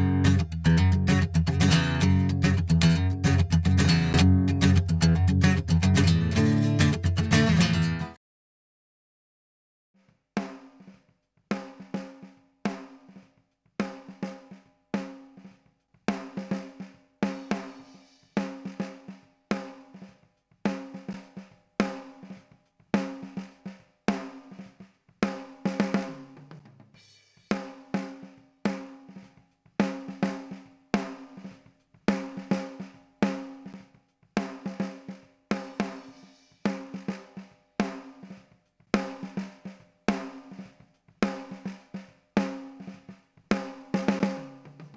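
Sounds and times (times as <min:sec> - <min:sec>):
drum kit playing a beat: 0:00.0 - 0:08.1, 0:16.1 - 0:44.9.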